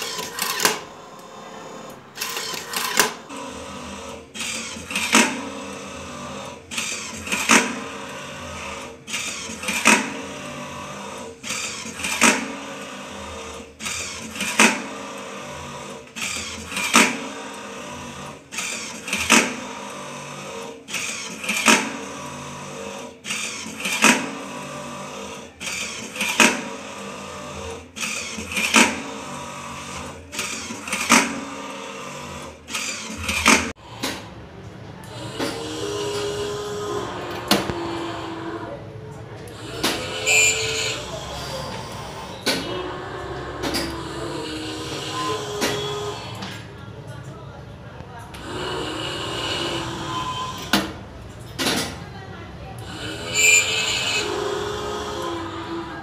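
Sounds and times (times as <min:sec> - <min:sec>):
machine motor hum: 0:00.0 - 0:56.0.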